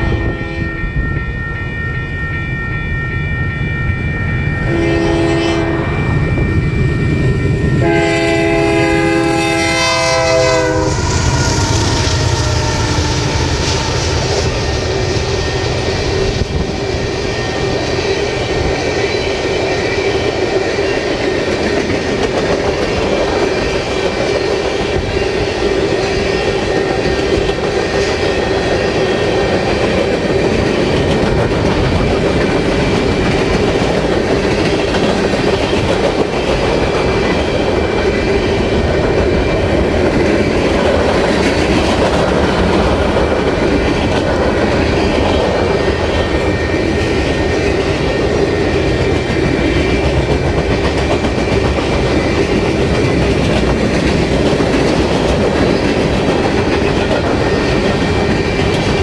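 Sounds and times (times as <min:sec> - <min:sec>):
steel wheels clattering on rails: 0:10.7 - 0:59.0.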